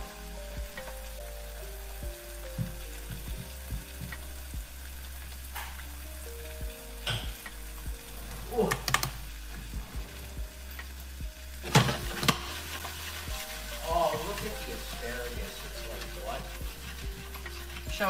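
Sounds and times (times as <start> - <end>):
soft lo-fi music: 0.0 - 18.0.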